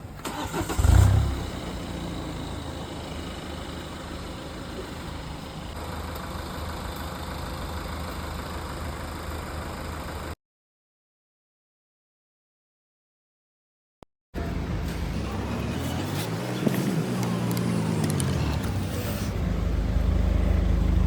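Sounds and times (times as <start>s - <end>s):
diesel car engine idling: 0.0s - 10.4s, 14.4s - 21.0s.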